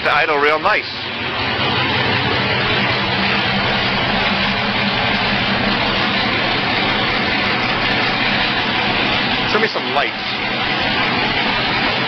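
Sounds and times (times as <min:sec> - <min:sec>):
engine idling without muffler: 0:00.0 - 0:12.0.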